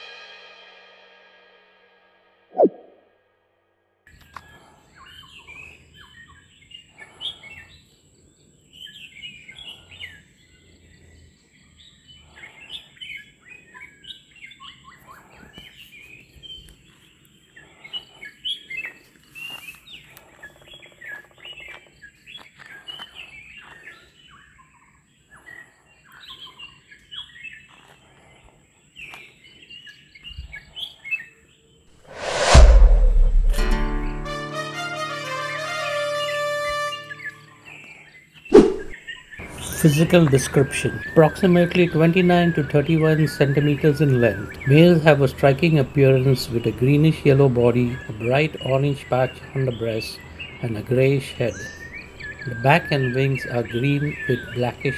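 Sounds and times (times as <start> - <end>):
songbirds chirping and singing: 4.2 - 31.8, 35.9 - 54.9.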